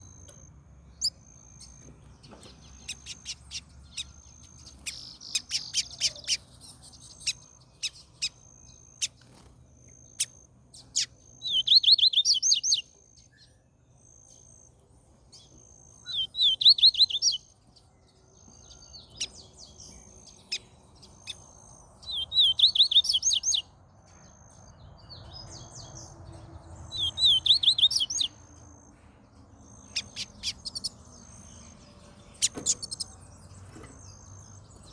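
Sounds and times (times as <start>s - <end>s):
bird warbling song: 0.0s - 34.9s.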